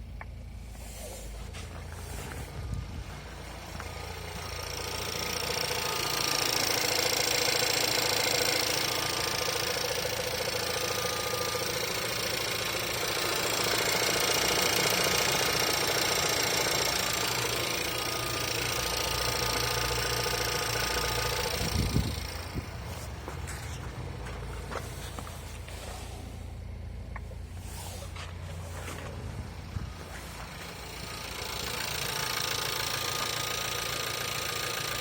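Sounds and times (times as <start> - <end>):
car engine rattling: 0.0 - 35.0.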